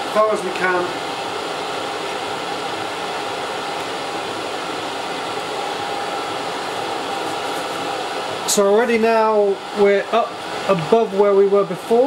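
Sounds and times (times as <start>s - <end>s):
air heater whooshing hum: 0.0s - 12.0s.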